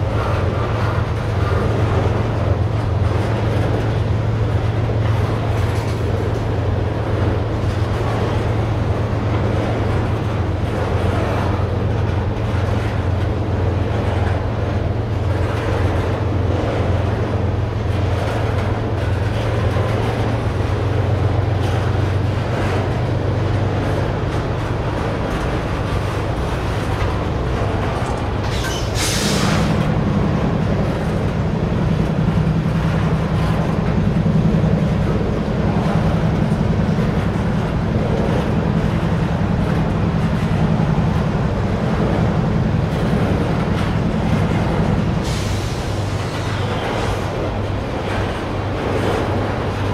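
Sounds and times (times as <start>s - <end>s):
train wheels clattering on rails: 0.0s - 49.9s.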